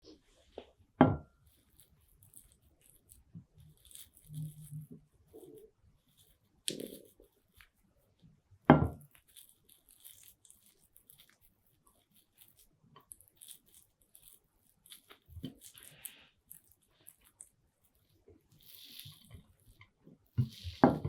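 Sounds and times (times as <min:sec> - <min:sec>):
tearing sound: 0:01.6 - 0:07.7, 0:09.0 - 0:21.0.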